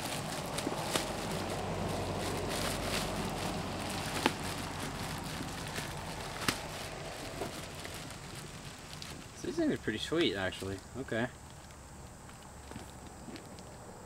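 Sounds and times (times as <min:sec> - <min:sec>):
plastic wrapping crinkling: 0:00.0 - 0:13.8.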